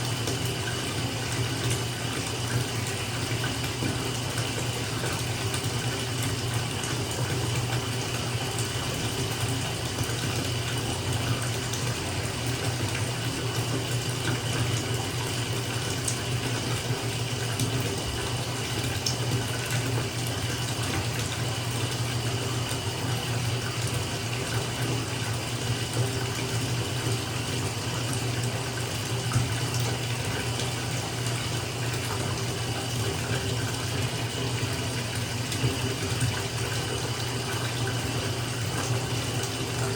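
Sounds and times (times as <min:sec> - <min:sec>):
tap water pouring into bath: 0:00.0 - 0:39.9.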